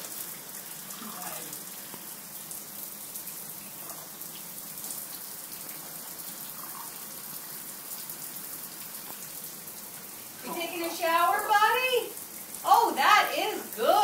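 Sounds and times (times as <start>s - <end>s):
shower water spraying: 0.0s - 14.0s.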